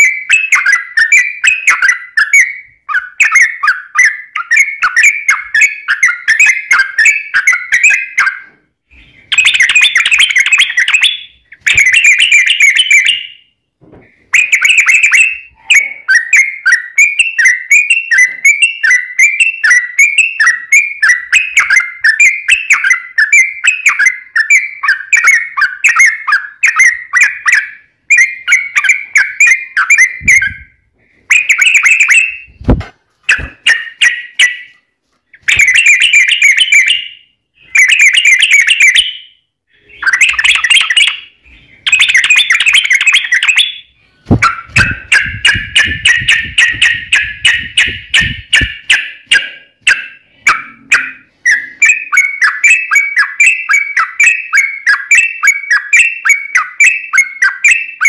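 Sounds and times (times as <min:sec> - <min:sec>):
bird chattering song: 0:00.0 - 0:13.5, 0:14.3 - 0:34.8, 0:35.4 - 0:58.0.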